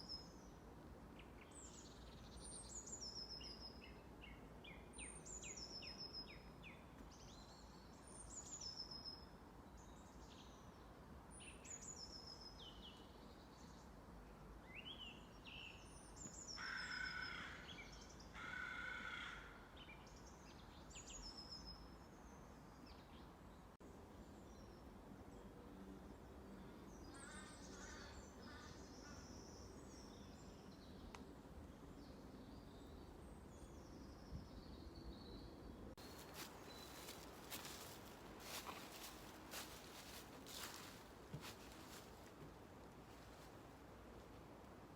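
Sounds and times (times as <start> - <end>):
songbird singing: 0.0 - 43.1.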